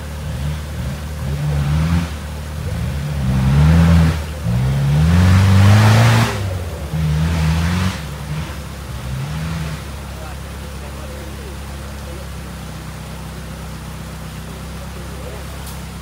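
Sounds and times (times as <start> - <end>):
engine revving: 0.0 - 16.0
loud hissing rush: 0.0 - 16.0.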